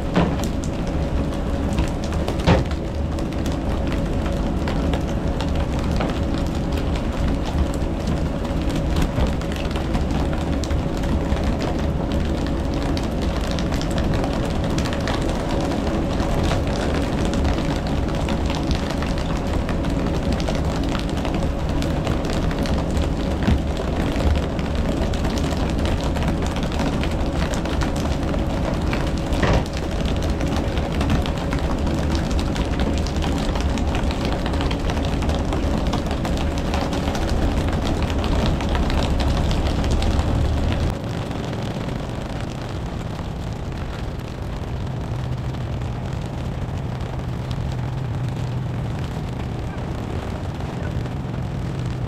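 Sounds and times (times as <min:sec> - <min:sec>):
boat engine running: 0:00.0 - 0:52.0
wind and water noise: 0:00.0 - 0:52.0.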